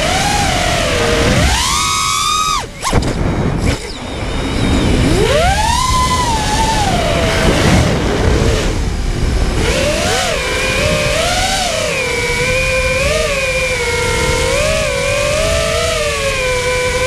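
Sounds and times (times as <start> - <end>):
drone motors whining: 0.0 - 17.0
wind rumble on microphone: 0.0 - 17.0.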